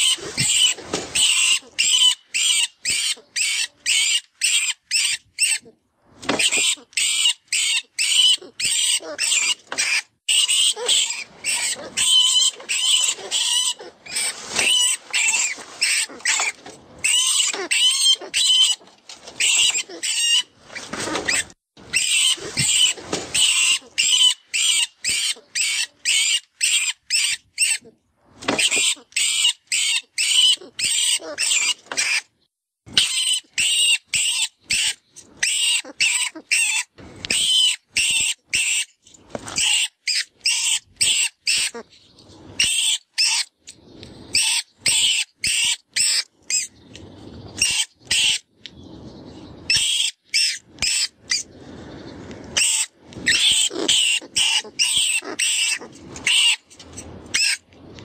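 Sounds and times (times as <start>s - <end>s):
shrill rat squeaks and squeals: 0.0s - 5.7s, 6.4s - 18.8s, 19.4s - 20.5s, 21.2s - 27.9s, 28.6s - 32.3s, 33.0s - 38.9s, 39.5s - 42.0s, 42.6s - 43.5s, 44.3s - 46.8s, 47.6s - 48.4s, 49.7s - 51.5s, 52.6s - 56.6s, 57.3s - 57.6s.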